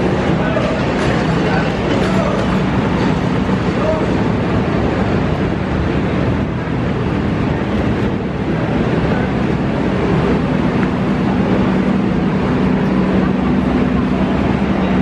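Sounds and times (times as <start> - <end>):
diesel train idling hum: 0.0 - 15.0.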